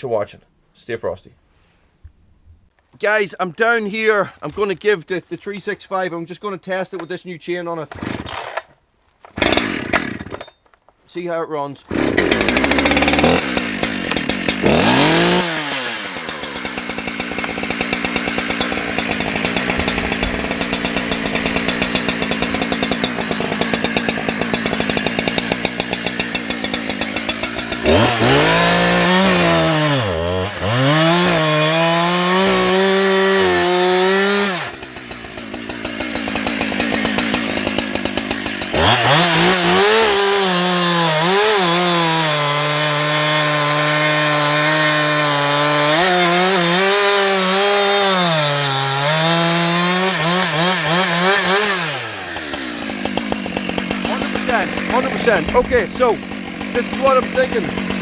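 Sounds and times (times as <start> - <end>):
chainsaw cutting and revving: 7.9 - 8.7, 9.4 - 10.5, 11.9 - 58.0.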